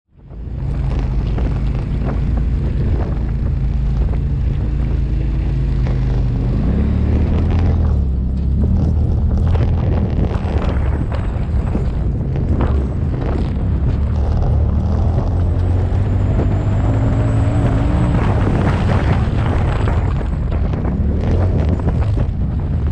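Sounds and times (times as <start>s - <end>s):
off-road vehicle engine running: 0.1s - 22.9s
tyres crunching over rocks: 0.4s - 22.9s.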